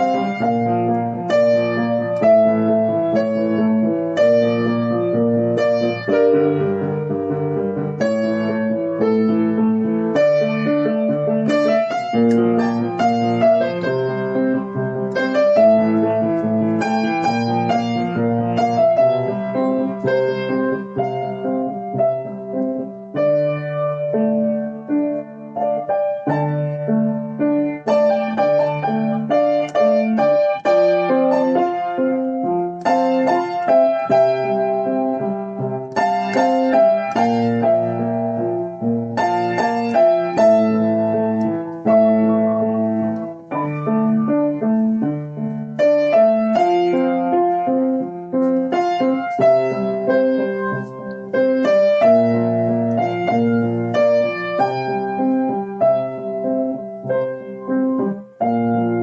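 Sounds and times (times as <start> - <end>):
piano melody over chords: 0.0 - 59.0.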